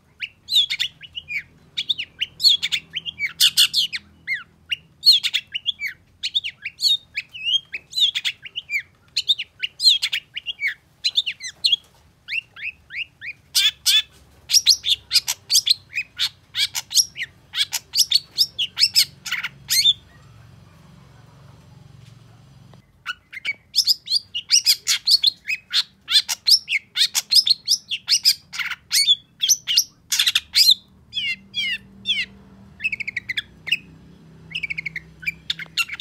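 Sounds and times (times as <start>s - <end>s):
bird chattering song: 0.0s - 20.7s, 22.8s - 36.0s.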